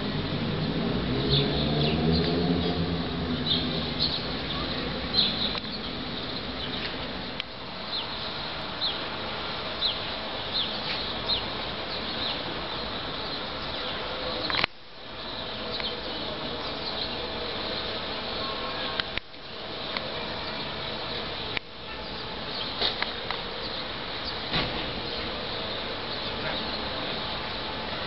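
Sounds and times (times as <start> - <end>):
steady outdoor hum: 0.0 - 28.0
small birds chirping: 0.6 - 28.0.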